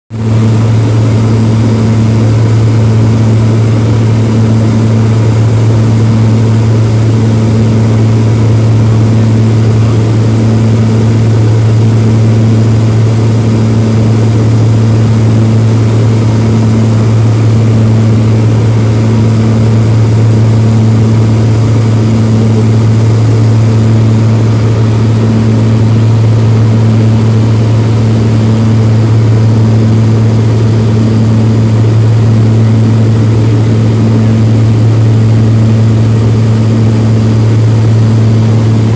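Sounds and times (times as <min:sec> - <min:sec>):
propeller engines droning: 0:00.1 - 0:38.9.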